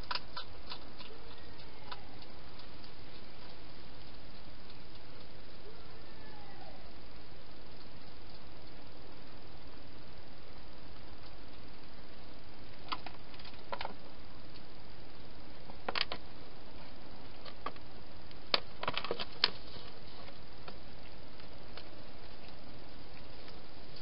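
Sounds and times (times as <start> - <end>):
microphone hiss: 0.0 - 24.0.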